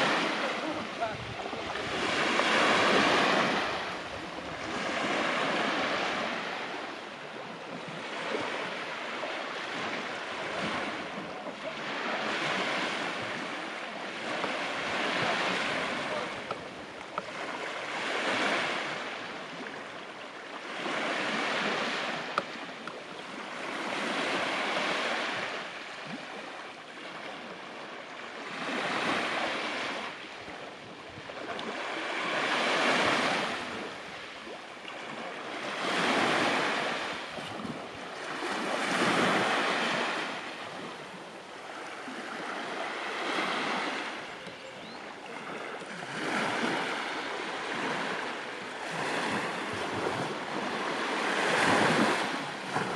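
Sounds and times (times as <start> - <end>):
sea waves washing onto beach: 0.0 - 52.9.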